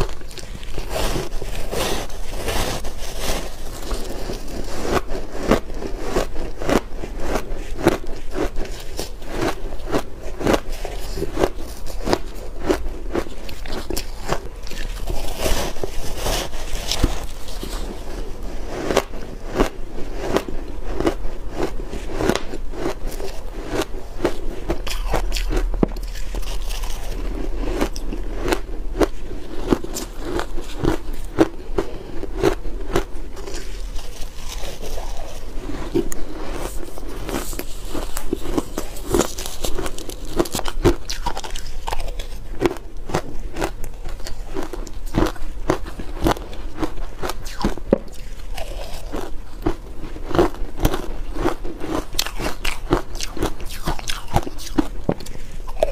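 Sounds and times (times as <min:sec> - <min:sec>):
crunching shaved ice: 0:00.0 - 0:55.9.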